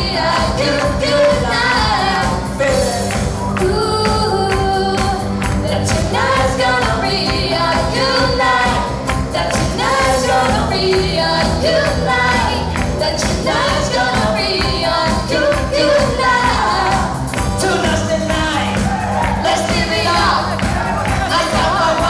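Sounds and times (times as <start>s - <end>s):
live pop band playing: 0.0s - 22.0s
voices singing: 0.0s - 22.0s.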